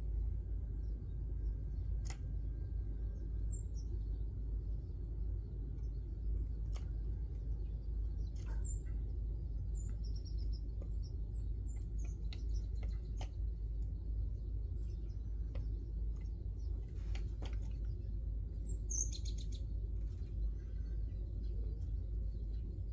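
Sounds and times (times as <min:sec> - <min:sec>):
steady low rumble: 0:00.0 - 0:22.9
sparrows chirping: 0:00.2 - 0:22.9.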